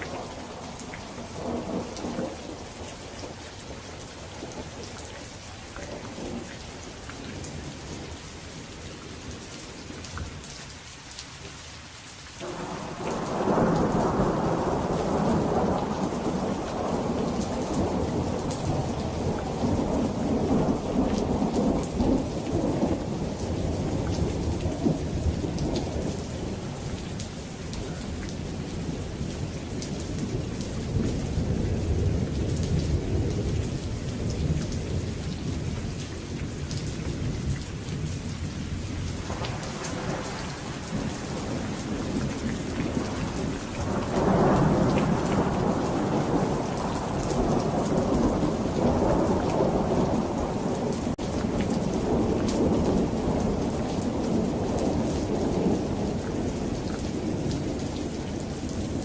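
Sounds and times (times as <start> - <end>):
thunder rumbling: 0.0 - 4.9, 12.4 - 59.0
steady rain falling: 0.0 - 59.0.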